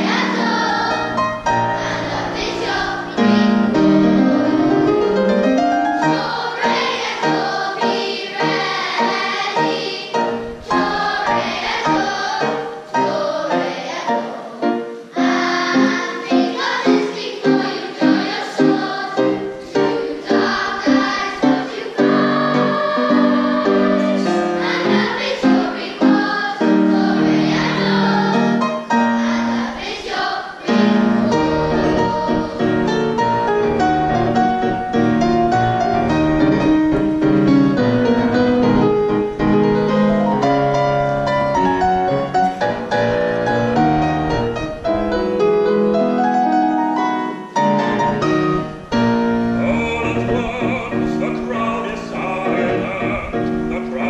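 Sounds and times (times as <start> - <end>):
children's choir singing: 0.0 - 54.0
grand piano accompaniment: 0.0 - 54.0.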